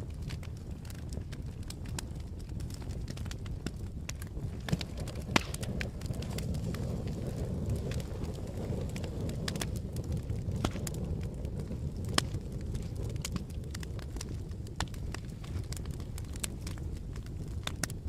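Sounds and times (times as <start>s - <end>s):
burning wood crackling and popping: 0.0s - 18.0s
low rumble of flames: 0.0s - 18.0s.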